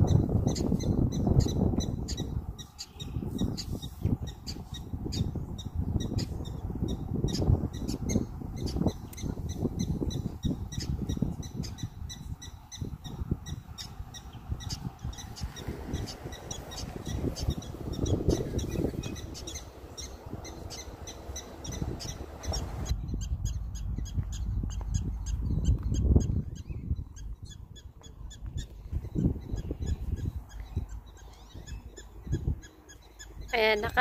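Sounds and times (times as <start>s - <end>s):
prairie dogs chirping: 0.0s - 34.0s.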